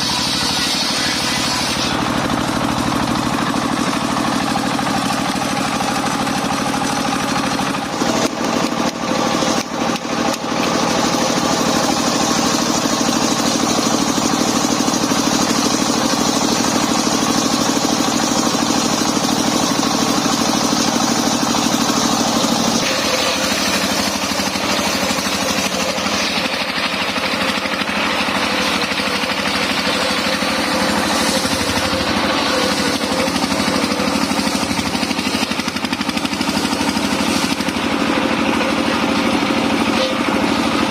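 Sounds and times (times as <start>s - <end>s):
saw blade cutting wood: 0.0s - 40.9s
sawmill engine running: 0.0s - 40.9s.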